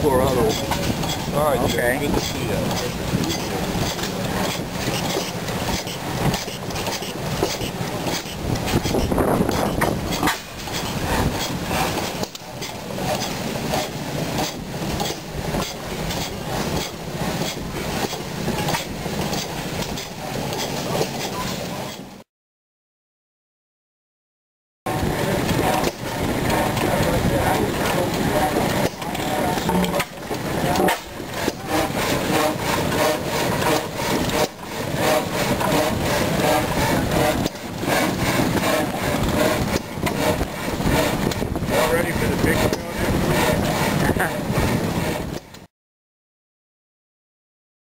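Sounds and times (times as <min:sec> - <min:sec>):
gas engine running rhythmically: 0:00.0 - 0:22.2, 0:24.9 - 0:45.7.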